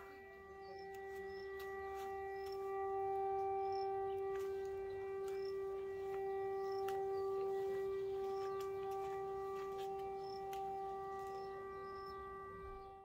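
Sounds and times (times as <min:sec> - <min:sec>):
steady held tone: 0:00.0 - 0:13.0.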